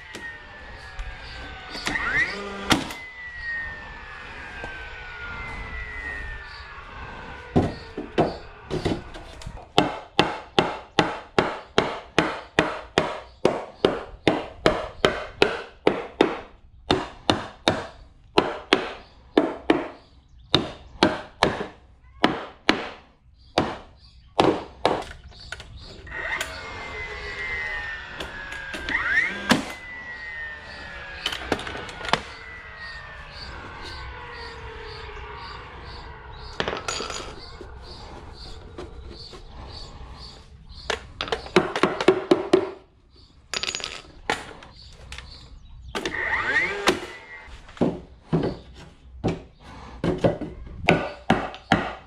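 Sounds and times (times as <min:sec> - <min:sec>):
nailer motor whine: 0:00.0 - 0:21.8, 0:24.5 - 0:42.7, 0:44.3 - 0:50.4.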